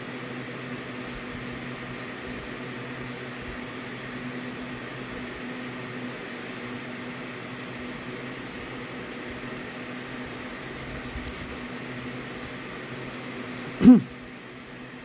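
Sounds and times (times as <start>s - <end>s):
background hum with hiss: 0.0s - 15.0s.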